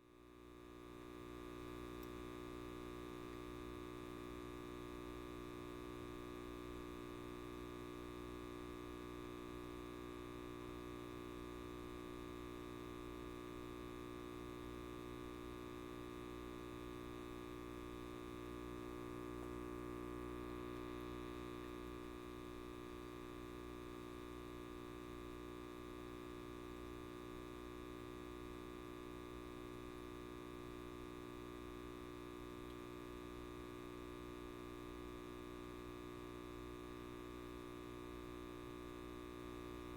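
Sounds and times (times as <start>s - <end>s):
light bulb electrical hum: 0.0s - 39.9s.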